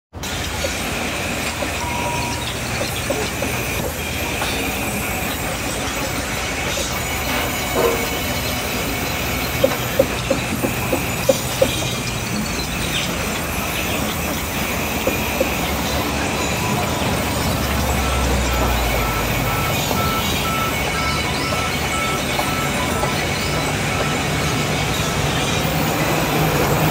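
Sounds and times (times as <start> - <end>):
band saw whining: 0.2 - 26.9.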